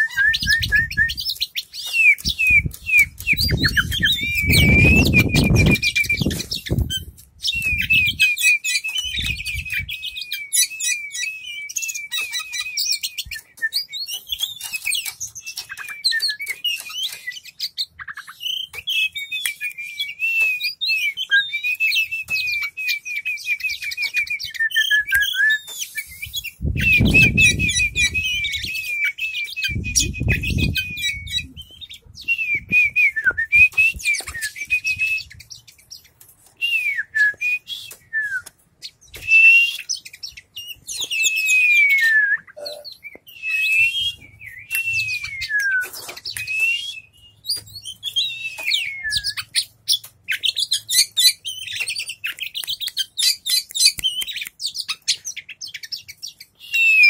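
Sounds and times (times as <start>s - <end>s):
bird singing chirps and trills: 0.0s - 36.2s, 37.0s - 57.0s.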